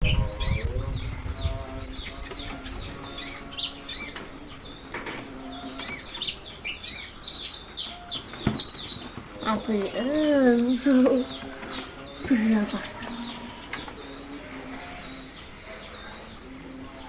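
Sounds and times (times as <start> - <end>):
bird singing high chirps: 0.0 - 17.0.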